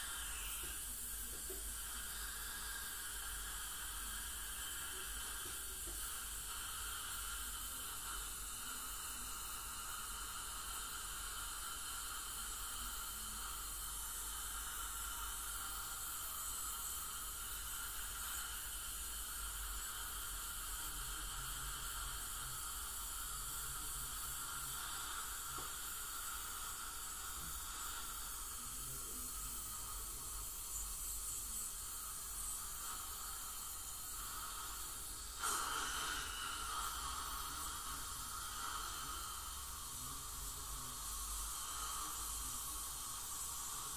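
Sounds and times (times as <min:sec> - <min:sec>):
dental suction equipment hissing: 0:00.0 - 0:43.9.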